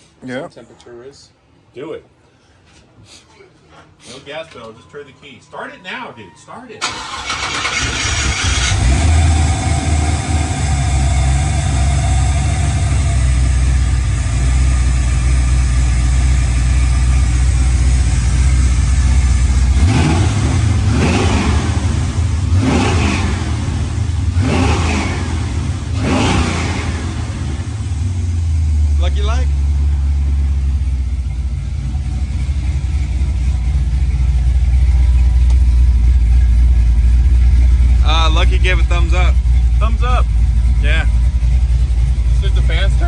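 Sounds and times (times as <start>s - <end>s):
car engine idling and revving: 6.8s - 43.0s.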